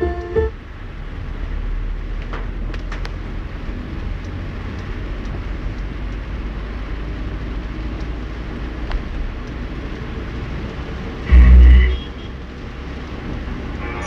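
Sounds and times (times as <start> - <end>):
vehicle road noise: 0.0 - 14.0.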